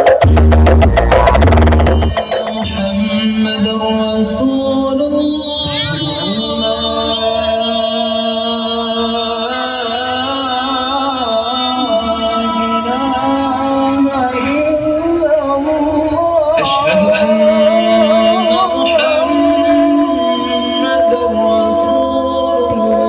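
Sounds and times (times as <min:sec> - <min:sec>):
loud music with man singing: 0:00.0 - 0:23.0.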